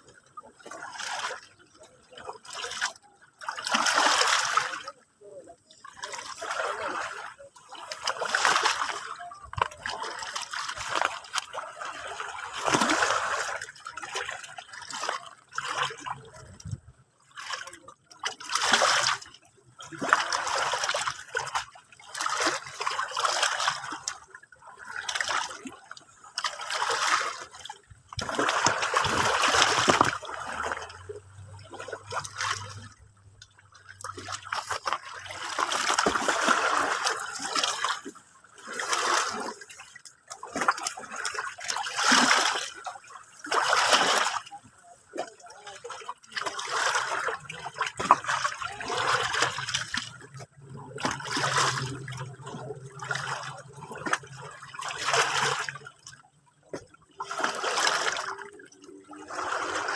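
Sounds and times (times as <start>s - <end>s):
small waves splashing and lapping: 0.0s - 59.9s.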